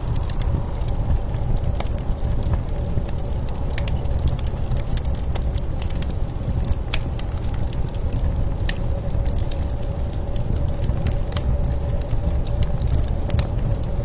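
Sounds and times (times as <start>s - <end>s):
blizzard wind rumbling: 0.0s - 14.0s
fire crackling and popping: 0.0s - 14.0s.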